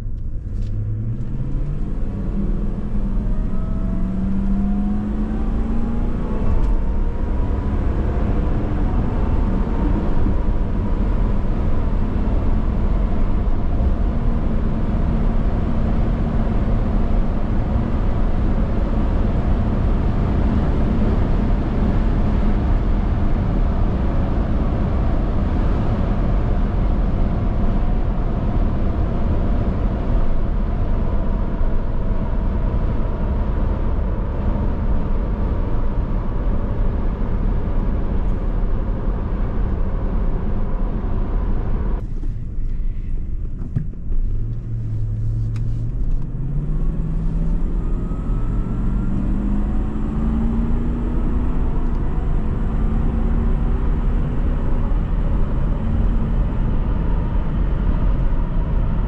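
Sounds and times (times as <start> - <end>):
road noise: 0.0 - 59.0
suv engine rumble: 0.0 - 59.0.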